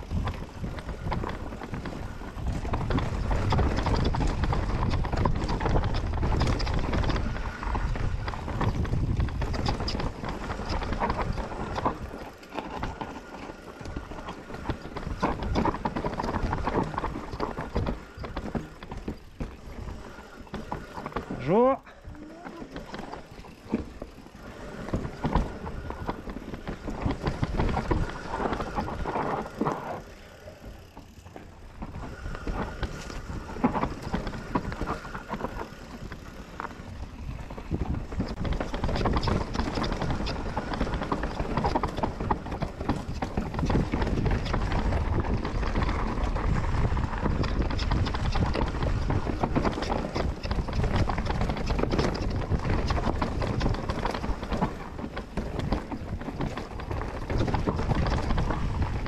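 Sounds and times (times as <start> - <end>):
bike tyres rolling over dirt: 0.0 - 59.0.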